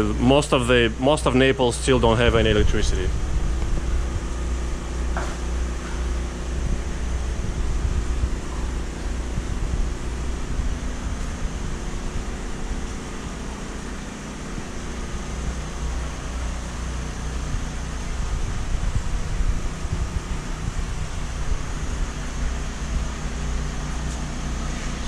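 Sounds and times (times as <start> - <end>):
generator running: 0.0 - 25.0.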